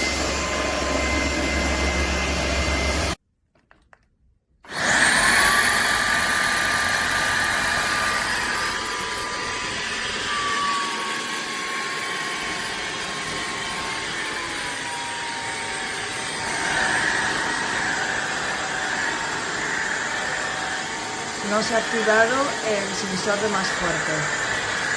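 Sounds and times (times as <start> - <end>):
stick vacuum motor whine: 0.0 - 3.2, 4.7 - 24.9.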